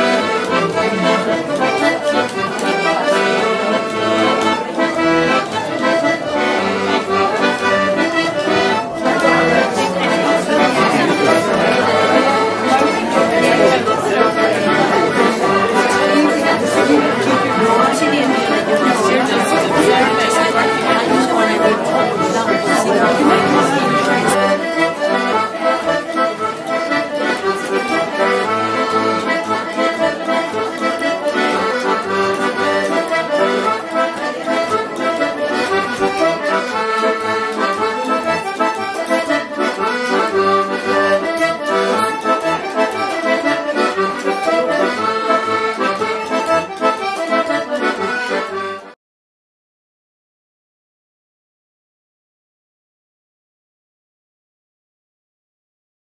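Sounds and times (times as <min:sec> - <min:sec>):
accordion tune with bass beat: 0:00.0 - 0:49.0.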